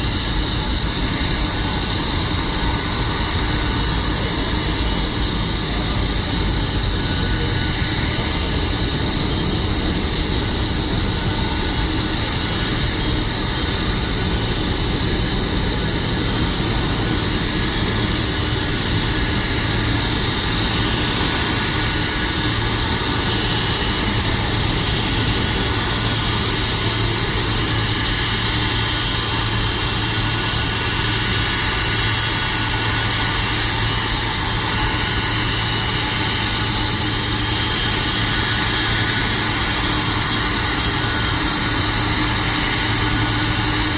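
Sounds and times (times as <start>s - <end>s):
jet engines rumbling and whining: 0.0s - 43.9s.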